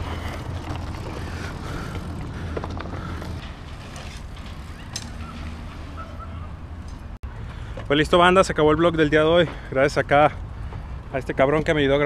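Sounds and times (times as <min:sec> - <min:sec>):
bike rattling: 0:00.0 - 0:12.0
bike tyre noise on dirt: 0:00.0 - 0:12.0.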